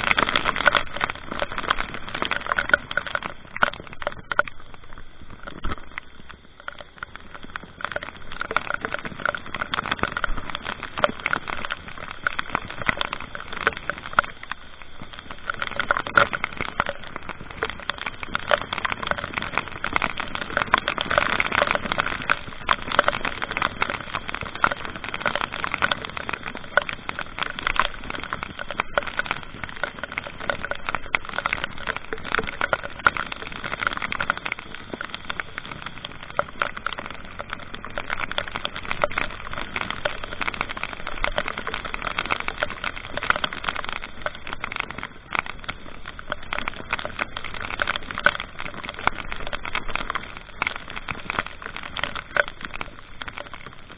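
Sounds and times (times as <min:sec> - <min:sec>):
crackling ticks on microphone: 0:00.0 - 0:53.9
road and wind noise: 0:00.0 - 0:53.9.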